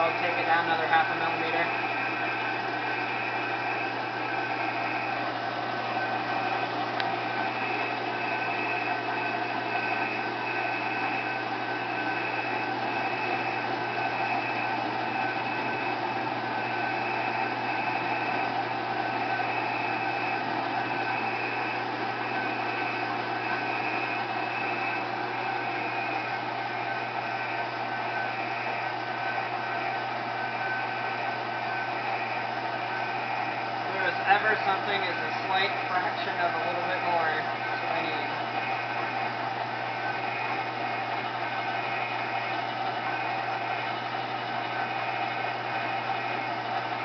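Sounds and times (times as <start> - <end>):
milling machine cutting metal: 0.0 - 47.0.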